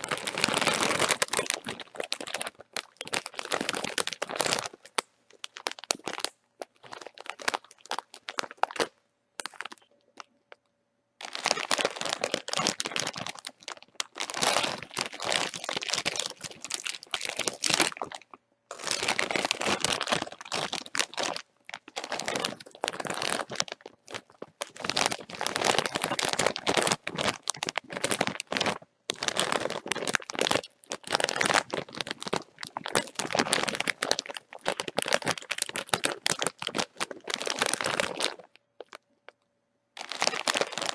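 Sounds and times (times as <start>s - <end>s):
bag of chips crinkling: 0.0s - 10.3s, 11.2s - 39.0s, 40.0s - 40.9s.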